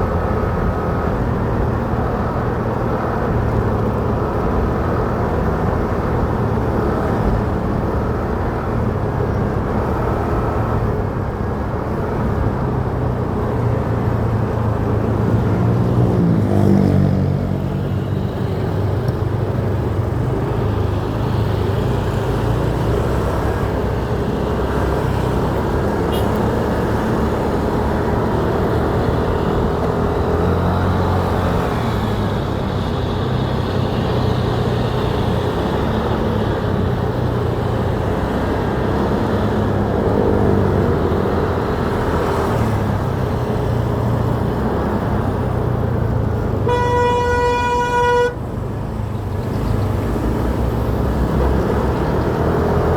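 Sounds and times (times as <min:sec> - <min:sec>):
car traffic: 0:00.0 - 0:52.9
road and wind noise: 0:00.0 - 0:52.9.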